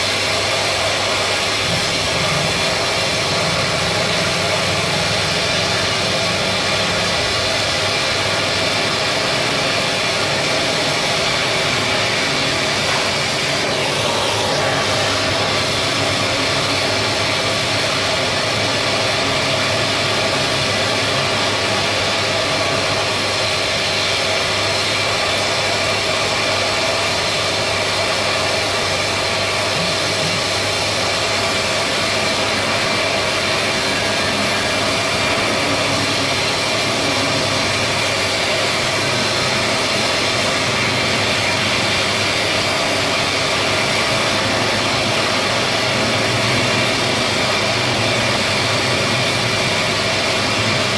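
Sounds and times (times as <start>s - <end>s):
machinery hiss: 0.0s - 50.9s.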